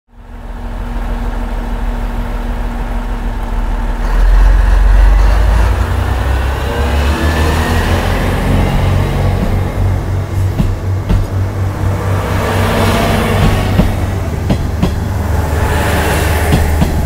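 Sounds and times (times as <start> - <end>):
diesel railcar engine: 0.1 - 17.0
rising engine whine: 0.2 - 17.0.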